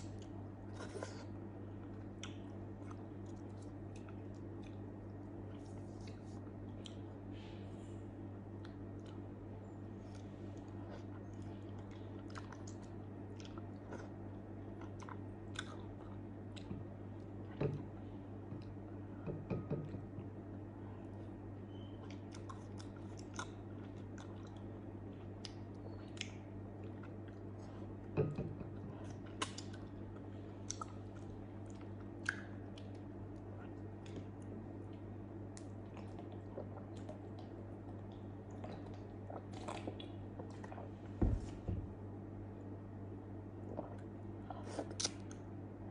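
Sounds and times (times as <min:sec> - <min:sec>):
person chewing food: 0:00.0 - 0:07.2, 0:10.0 - 0:18.8, 0:21.0 - 0:41.2, 0:43.6 - 0:45.4
low electrical hum: 0:00.0 - 0:45.9.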